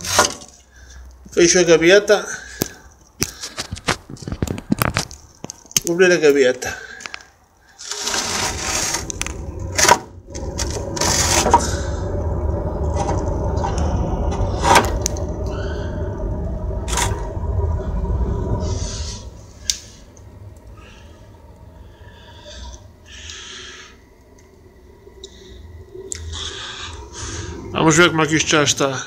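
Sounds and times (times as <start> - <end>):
burning wood cracking: 0.0 - 28.9
fire roaring: 0.0 - 29.0.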